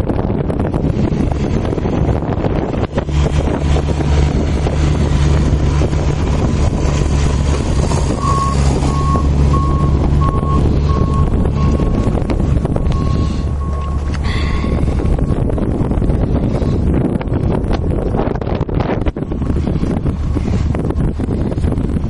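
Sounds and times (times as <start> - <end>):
large engine running: 0.0 - 22.0
wind noise on microphone: 0.0 - 22.0.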